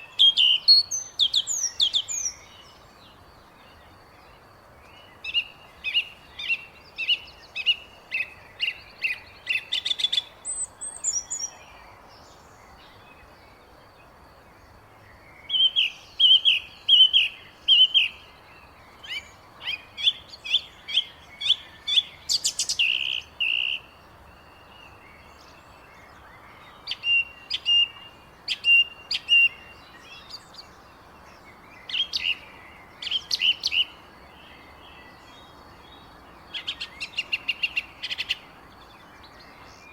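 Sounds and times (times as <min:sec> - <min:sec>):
faint steady hiss: 0:00.0 - 0:39.9
small songbirds chirping: 0:00.0 - 0:39.9.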